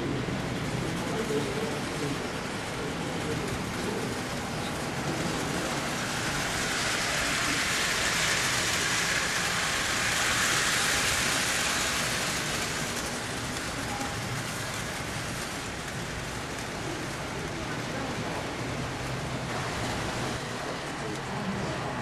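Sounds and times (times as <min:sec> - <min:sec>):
model train wheels rumbling on rail: 0:00.0 - 0:22.0.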